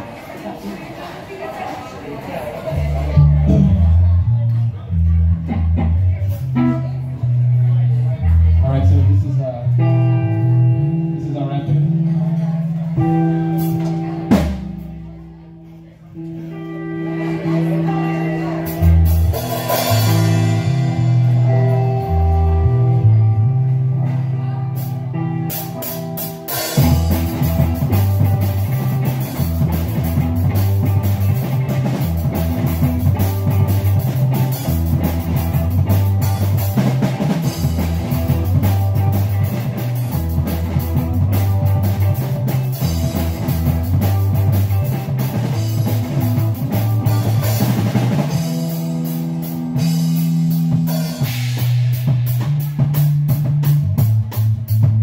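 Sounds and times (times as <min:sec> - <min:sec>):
bass guitar: 0:02.4 - 0:55.0
electric guitars: 0:02.5 - 0:55.0
drum kit: 0:02.7 - 0:11.2, 0:11.8 - 0:15.5, 0:16.2 - 0:55.0.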